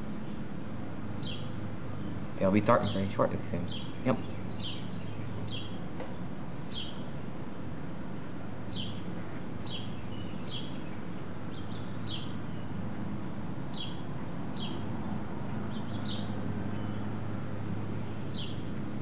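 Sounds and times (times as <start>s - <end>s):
steady low hum: 0.0s - 19.0s
bird chirping: 1.2s - 5.8s, 6.4s - 7.6s, 8.2s - 18.7s.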